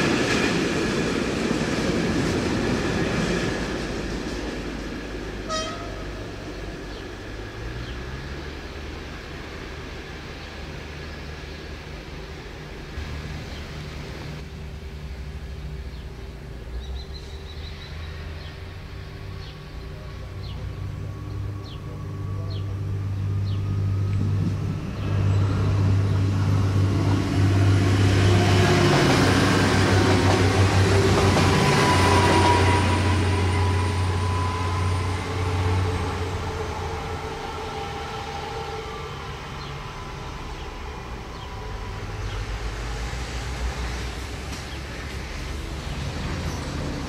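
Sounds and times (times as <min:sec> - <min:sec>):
diesel railcar passing: 0:00.0 - 0:47.0
wheel noise on rails: 0:00.0 - 0:47.0.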